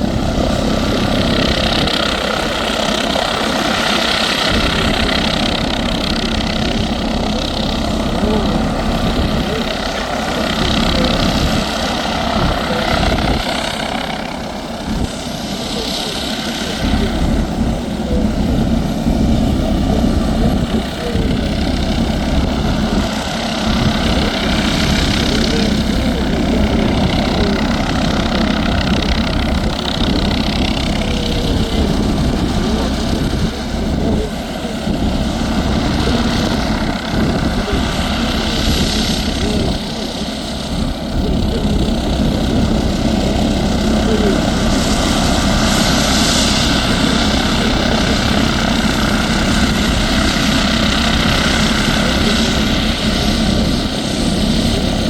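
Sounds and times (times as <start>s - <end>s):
helicopter rotor beat: 0.0s - 55.0s
helicopter turbine whine: 0.0s - 55.0s.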